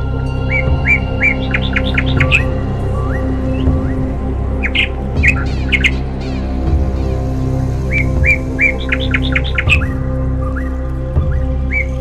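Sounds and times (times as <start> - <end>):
background music with low drone: 0.0 - 12.0
bird chirping: 0.0 - 12.0.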